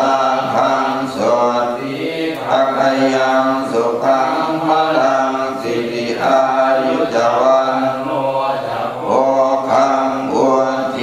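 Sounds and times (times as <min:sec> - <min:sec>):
monks chanting: 0:00.0 - 0:11.0.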